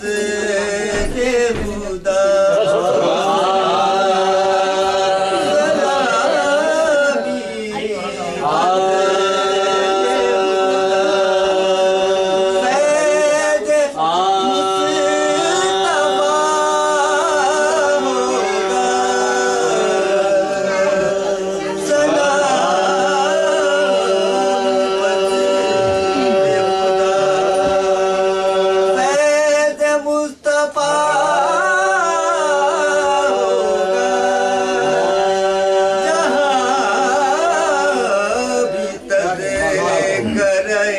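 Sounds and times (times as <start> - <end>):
men singing: 0.0 - 40.9.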